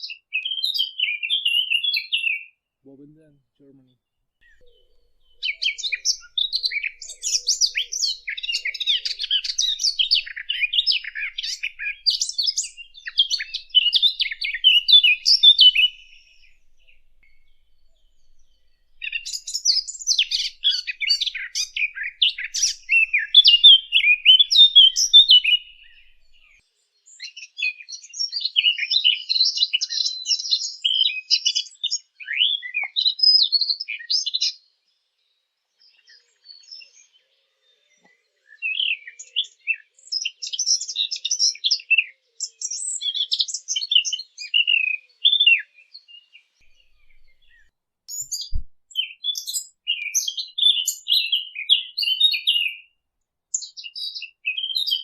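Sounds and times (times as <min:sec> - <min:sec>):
warbler singing: 0:00.0 - 0:34.6, 0:35.8 - 0:52.9, 0:53.5 - 0:55.0.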